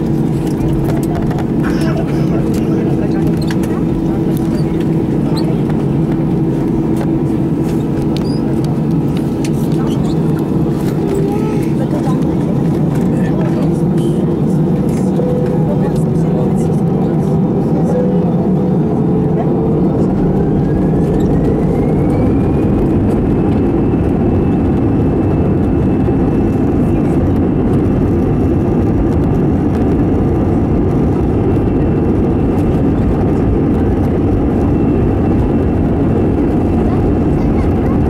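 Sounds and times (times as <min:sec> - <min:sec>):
jet engine roar: 0:00.0 - 0:38.0
jet engine whine: 0:00.0 - 0:38.0.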